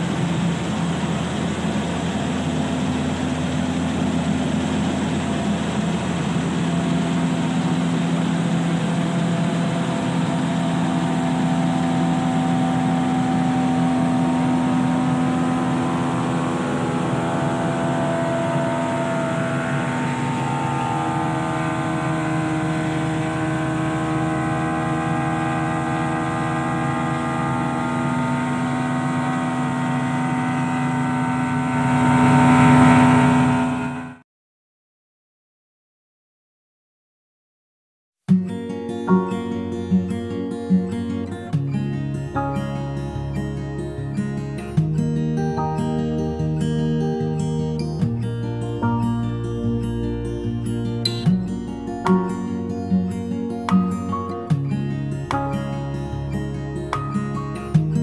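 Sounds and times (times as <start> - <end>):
combine harvester engine drone: 0.0 - 34.2, 39.1 - 58.0.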